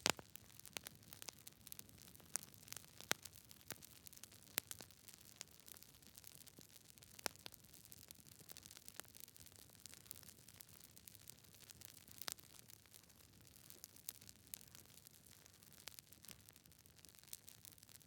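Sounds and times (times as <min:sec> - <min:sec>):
fire crackling: 0:00.0 - 0:18.0
fire popping: 0:00.0 - 0:18.0.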